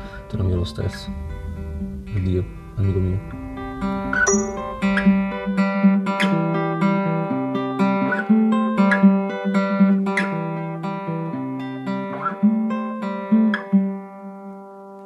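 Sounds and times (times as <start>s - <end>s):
acoustic guitar plucked notes: 0.0s - 15.0s.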